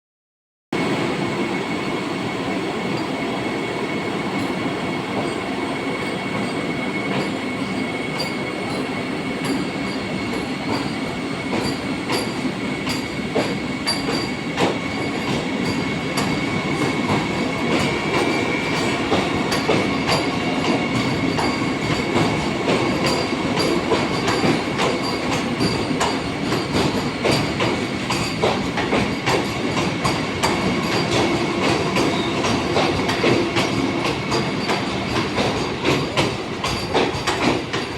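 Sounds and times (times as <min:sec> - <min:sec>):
train rumbling on rails: 0:00.8 - 0:37.9.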